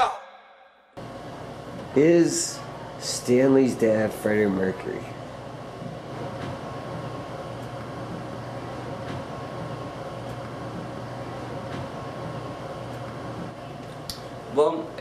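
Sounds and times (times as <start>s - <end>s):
low mechanical hum: 1.0s - 15.0s.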